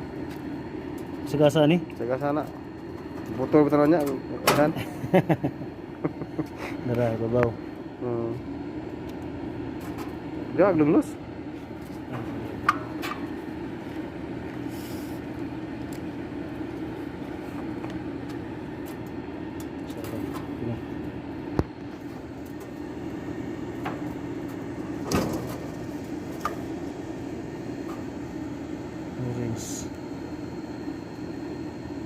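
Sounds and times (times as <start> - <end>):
machinery hum: 0.0 - 32.0.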